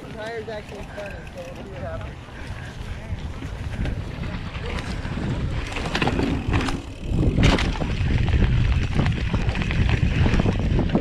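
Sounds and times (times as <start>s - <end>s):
bike rattling and knocking: 0.0s - 11.0s
wind and tyre noise: 0.0s - 11.0s.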